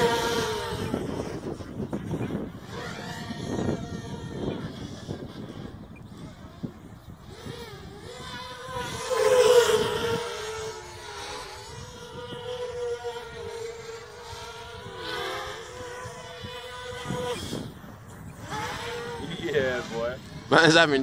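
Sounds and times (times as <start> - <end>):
quadcopter motors buzzing: 0.0 - 21.0.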